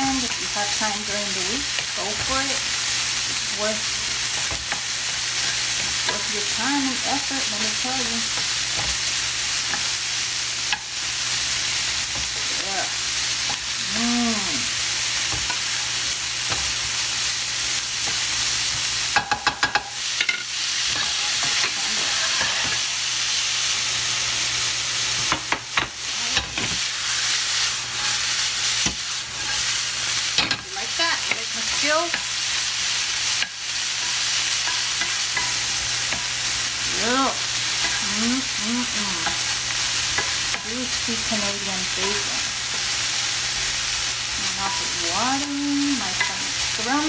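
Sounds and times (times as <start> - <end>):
bacon sizzling in a frying pan: 0.0 - 47.0.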